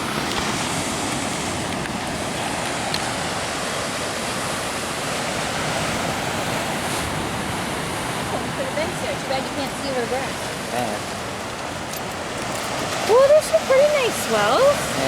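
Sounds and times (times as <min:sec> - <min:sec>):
ocean surf breaking on shore: 0:00.0 - 0:15.0.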